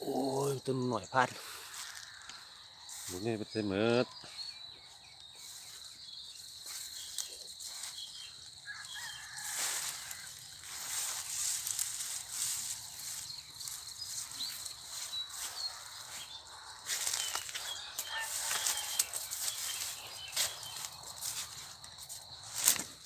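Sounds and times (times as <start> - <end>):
high insect drone: 0.0 - 23.0
small birds chirping: 0.0 - 23.0
rustling in dry vegetation: 1.4 - 3.3, 4.3 - 23.0.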